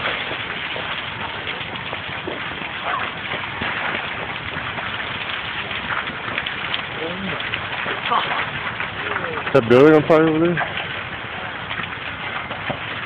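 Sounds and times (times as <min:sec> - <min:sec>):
fire crackling rush: 0:00.0 - 0:13.0.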